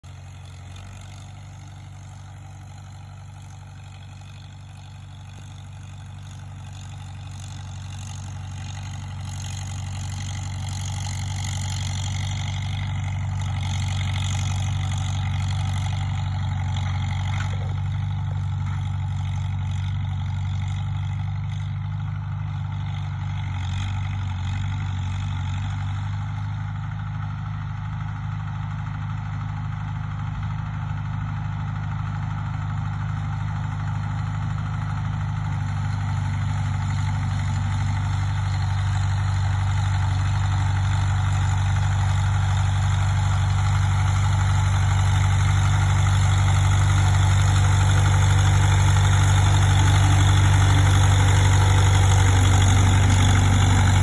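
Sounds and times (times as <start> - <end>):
tractor engine droning: 0.0 - 54.0.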